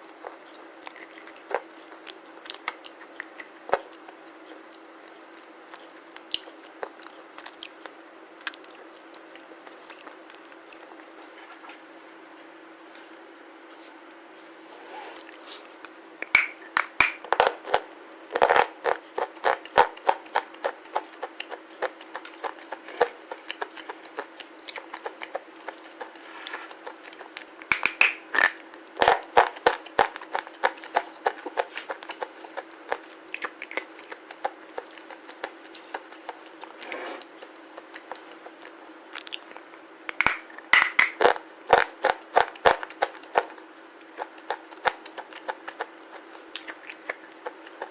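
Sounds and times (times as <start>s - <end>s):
crunching of slate being chewed: 0.0s - 11.2s, 16.3s - 47.9s
faint steady hum: 0.0s - 47.9s.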